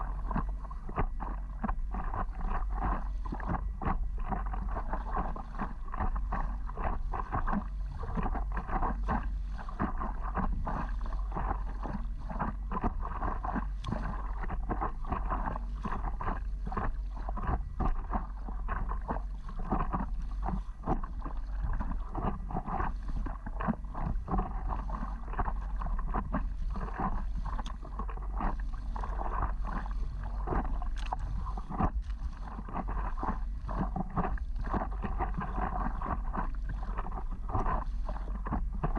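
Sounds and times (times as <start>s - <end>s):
low rumble: 0.0s - 38.9s
water splashing against paddleboard: 0.0s - 38.9s.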